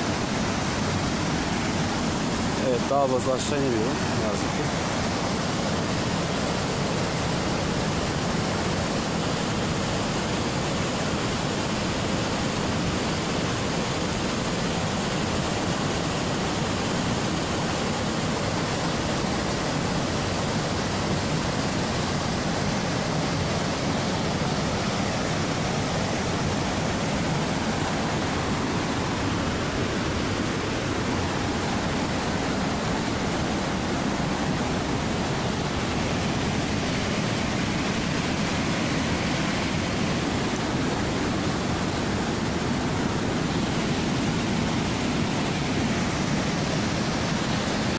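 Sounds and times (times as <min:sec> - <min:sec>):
fast-flowing stream: 0:00.0 - 0:47.9
waterfall rushing: 0:00.0 - 0:47.9.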